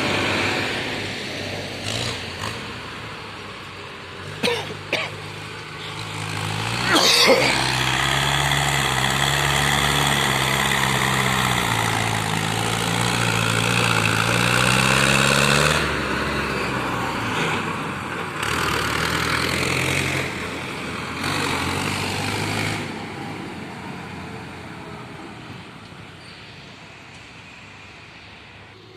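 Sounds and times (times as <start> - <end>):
tractor diesel engine under load: 0.0 - 28.9.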